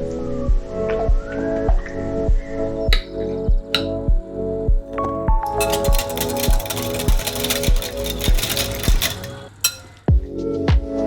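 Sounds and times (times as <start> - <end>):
music with steady beat: 0.0 - 9.2, 10.1 - 11.0.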